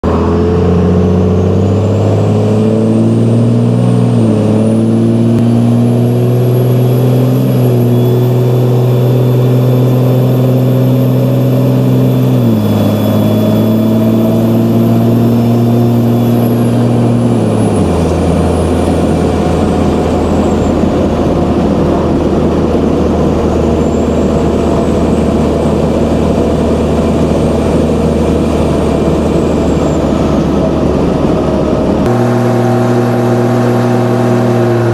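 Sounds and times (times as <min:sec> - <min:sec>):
diesel engine running: 0:00.0 - 0:34.9
high-pitched turbo whistle: 0:01.2 - 0:31.0, 0:32.0 - 0:34.9.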